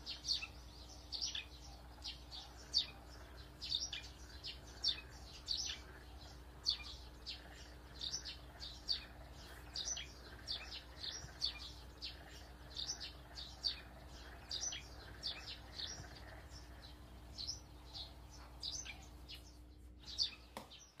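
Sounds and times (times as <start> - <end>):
faint low hum: 0.0 - 21.0
small birds chirping: 0.0 - 21.0.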